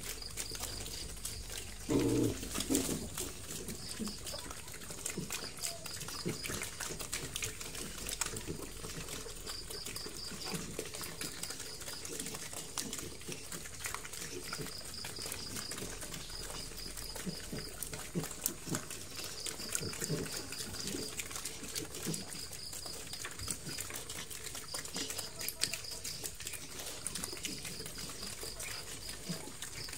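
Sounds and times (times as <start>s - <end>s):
piglet chewing and crunching feed: 0.0s - 29.9s.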